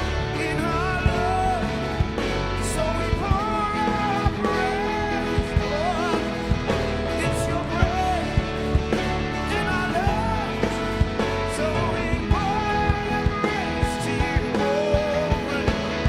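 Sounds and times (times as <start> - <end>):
gliding melodic line: 0.0 - 16.0
guitar-like chords: 0.0 - 16.0
instrumental worship band: 0.0 - 16.0
sustained bass: 0.0 - 16.0.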